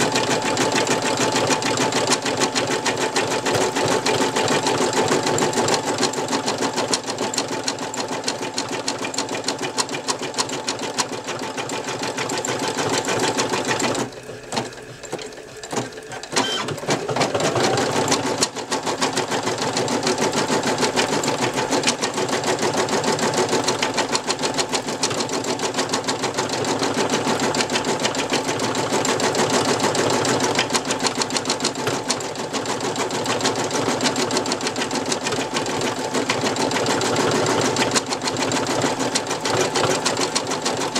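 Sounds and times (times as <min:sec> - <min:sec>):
embroidery machine stitching: 0:00.0 - 0:40.9.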